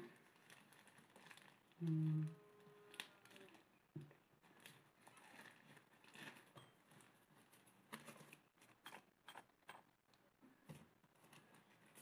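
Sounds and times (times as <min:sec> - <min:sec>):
packaging rustling and crinkling: 0:00.0 - 0:02.0, 0:02.6 - 0:08.8, 0:10.6 - 0:12.0.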